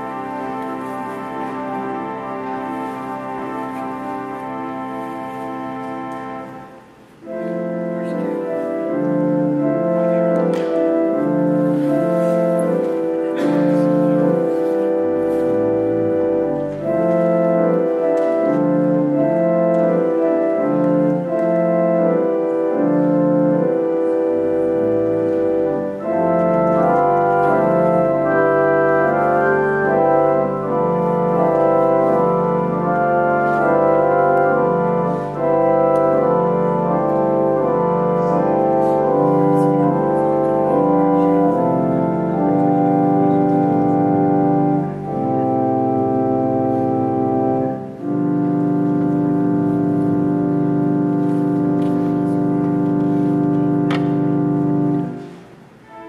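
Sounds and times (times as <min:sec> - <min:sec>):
church organ playing held chords: 0:00.0 - 0:56.0
deep organ pedal bass: 0:07.2 - 0:55.2.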